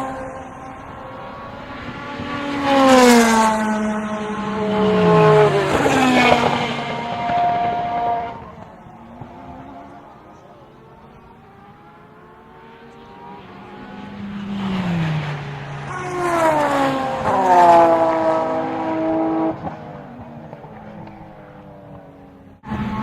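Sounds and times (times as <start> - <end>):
race cars passing: 0.0 - 23.0.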